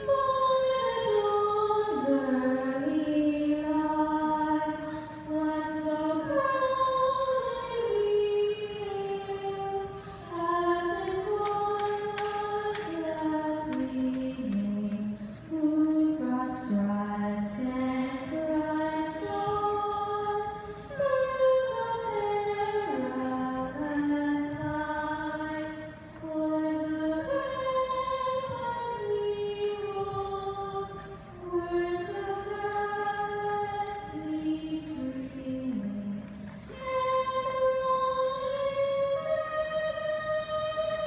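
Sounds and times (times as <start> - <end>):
girl singing into a microphone: 0.0 - 41.0.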